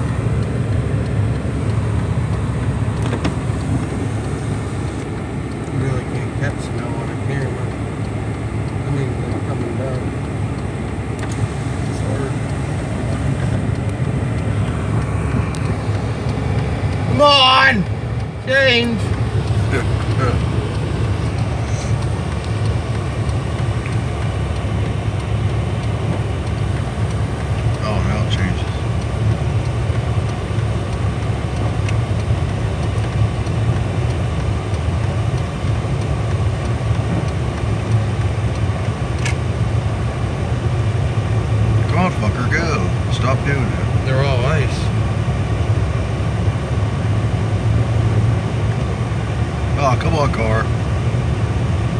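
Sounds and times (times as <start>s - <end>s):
car interior rumble: 0.0s - 51.9s.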